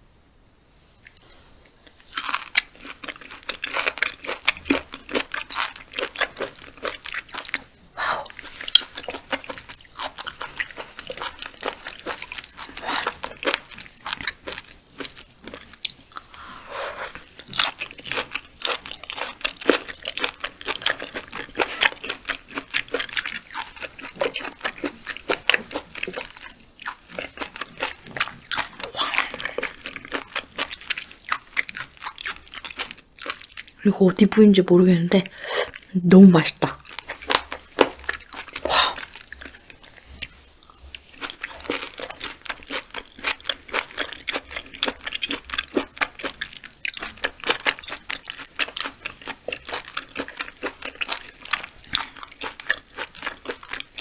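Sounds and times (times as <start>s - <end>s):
close chewing mouth clicks: 1.9s - 16.4s, 17.1s - 33.8s, 36.6s - 54.0s.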